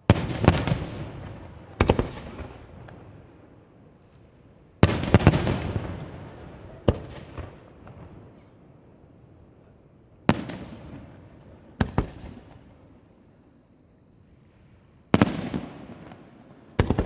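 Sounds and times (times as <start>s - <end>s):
echo and crackle: 0.0s - 17.0s.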